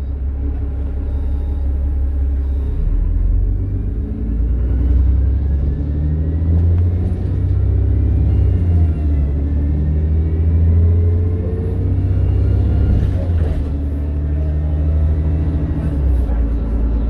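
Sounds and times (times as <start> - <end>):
bus engine accelerating: 0.0 - 17.0.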